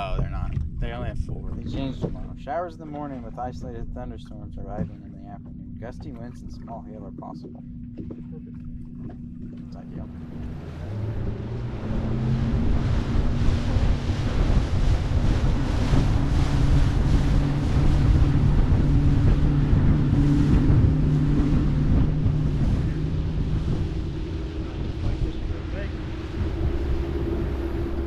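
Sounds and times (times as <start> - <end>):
outboard motor drone: 0.0 - 28.0
water rushing past hull: 0.0 - 28.0
wind buffeting microphone: 0.0 - 28.0.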